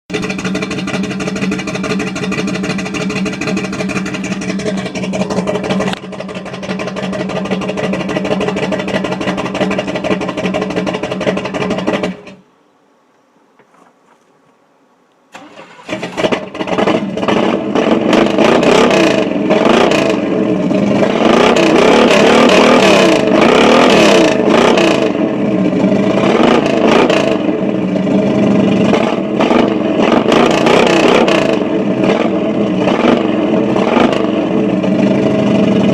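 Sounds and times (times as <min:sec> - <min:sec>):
car engine running and revving: 0:00.1 - 0:12.4, 0:16.1 - 0:35.9.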